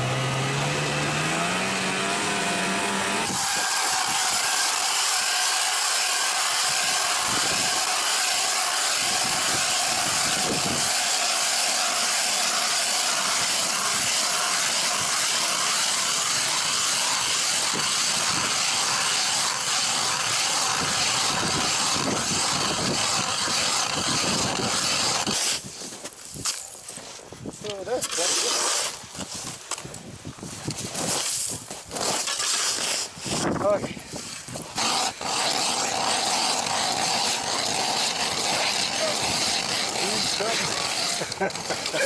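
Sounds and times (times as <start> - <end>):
ice auger scraping through ice: 1.0 - 29.8, 30.4 - 42.0.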